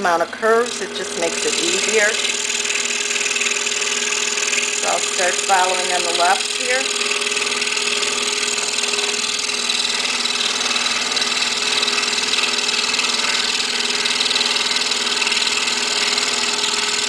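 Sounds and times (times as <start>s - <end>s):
scroll saw humming: 0.0s - 17.0s.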